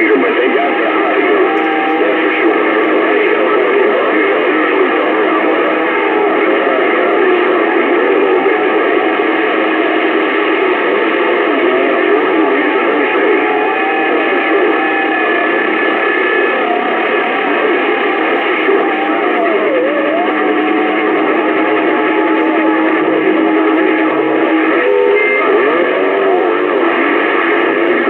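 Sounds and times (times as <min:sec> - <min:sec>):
garbled distant radio transmissions: 0:00.0 - 0:28.0
radio static: 0:00.0 - 0:28.0
wavering radio whistles: 0:00.0 - 0:28.0.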